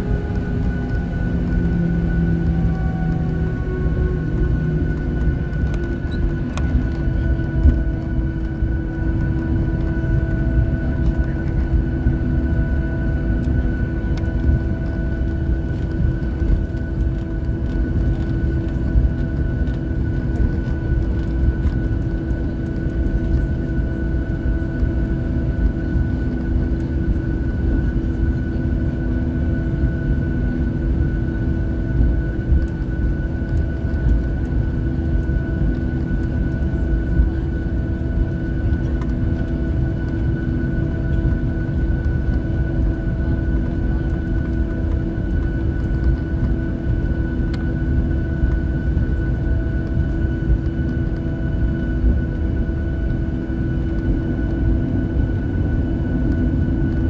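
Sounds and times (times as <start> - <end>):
jet engines idling hum and whine: 0.0 - 57.0
low rumbling cabin noise: 0.0 - 57.0.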